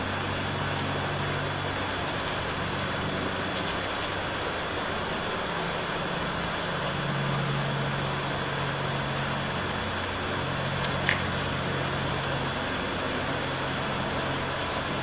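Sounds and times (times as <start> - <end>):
electric fans running: 0.0 - 15.0.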